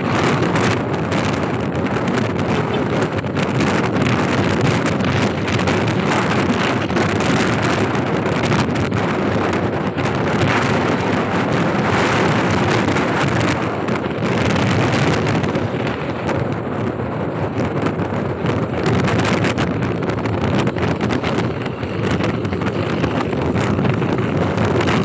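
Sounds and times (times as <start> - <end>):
motorcycle engine: 0.0 - 25.0
road noise: 0.0 - 25.0
wind rushing over microphone: 0.0 - 25.0.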